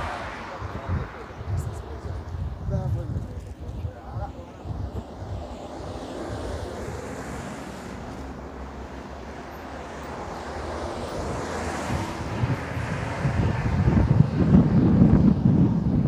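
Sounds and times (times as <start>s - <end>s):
wind on the microphone: 0.0s - 8.4s, 9.2s - 16.0s
passing traffic: 0.0s - 16.0s.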